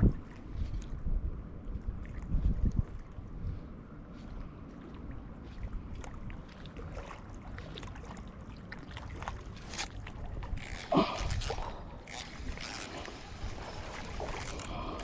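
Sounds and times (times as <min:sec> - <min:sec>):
wind rumbling on microphone: 0:00.0 - 0:08.3, 0:09.0 - 0:15.0.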